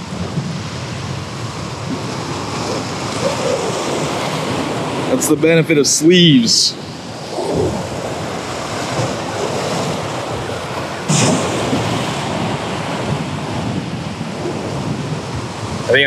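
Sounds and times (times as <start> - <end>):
surf breaking against rocks: 0.0 - 16.0
wind buffeting microphone: 0.0 - 16.0.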